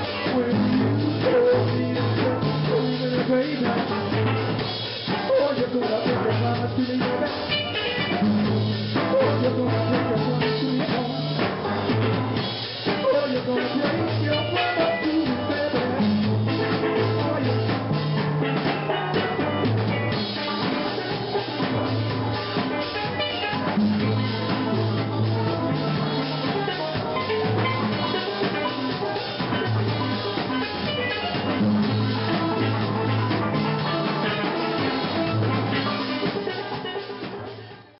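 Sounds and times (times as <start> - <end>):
steelpan melody: 0.0 - 37.7
bass line: 0.0 - 38.0
drum kit beats: 0.0 - 38.0.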